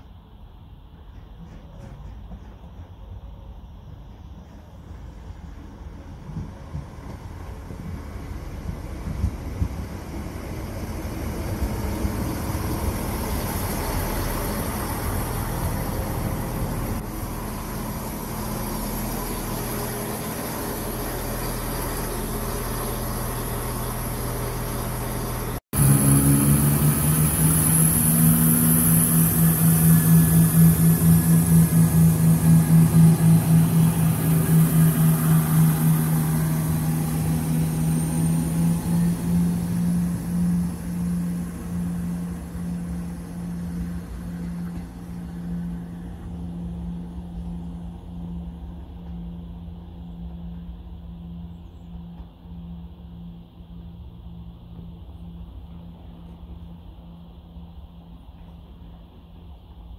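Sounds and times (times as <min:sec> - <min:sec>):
diesel engines idling: 0:06.8 - 0:58.1
diesel engine throbbing drone: 0:07.5 - 0:59.9.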